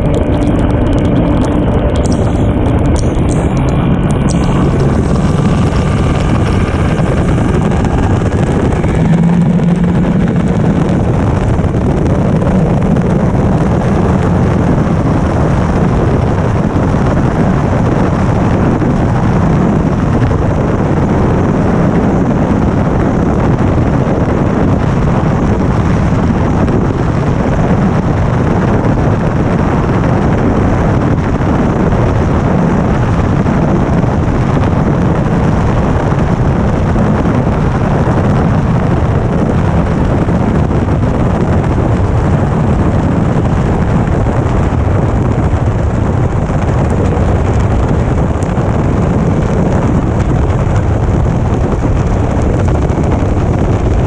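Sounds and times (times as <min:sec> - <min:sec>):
outboard engine at high speed: 0:00.0 - 0:54.0
wind buffeting microphone: 0:00.0 - 0:54.0.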